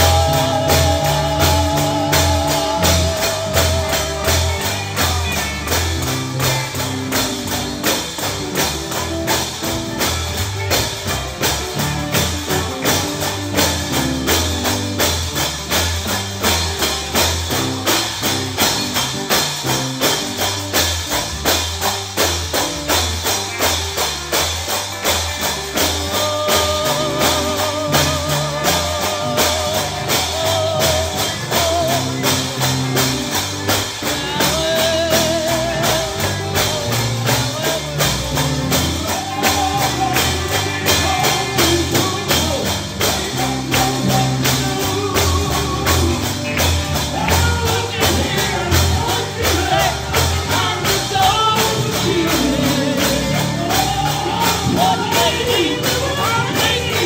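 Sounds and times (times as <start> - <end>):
band playing gospel music: 0.0 - 57.0
person singing with vibrato: 0.0 - 57.0
tambourine beat: 0.0 - 57.0.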